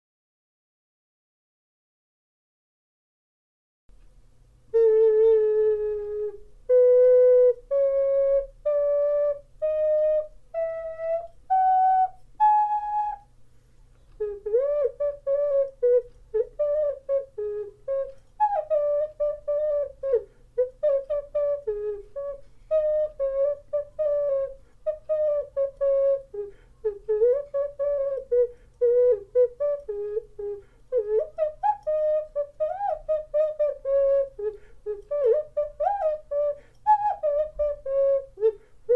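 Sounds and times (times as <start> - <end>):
ocarina playing: 4.7 - 13.4, 14.0 - 38.9.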